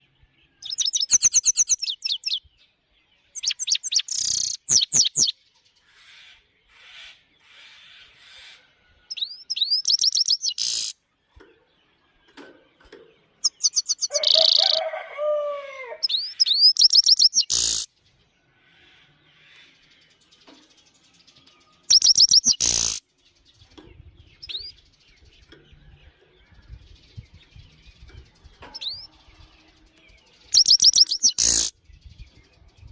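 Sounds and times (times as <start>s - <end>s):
bird twittering song: 0.0s - 32.9s.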